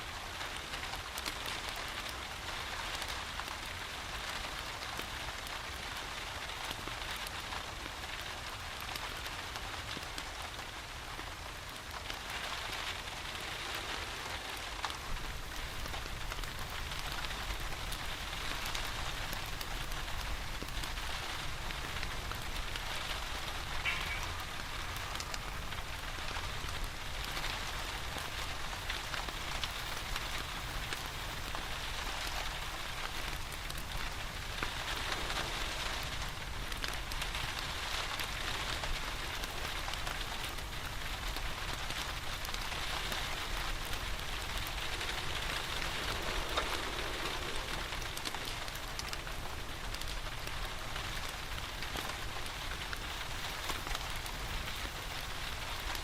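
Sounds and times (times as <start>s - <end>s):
rain pattering: 0.0s - 56.0s
fireplace crackling: 2.0s - 56.0s.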